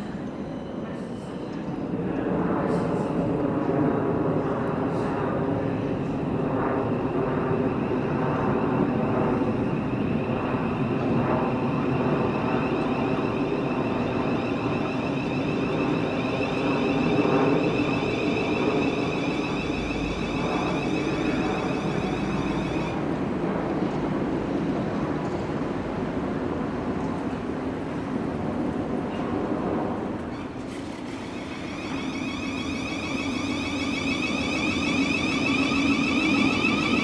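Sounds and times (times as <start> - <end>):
electric train rumble and whine: 0.0 - 37.0.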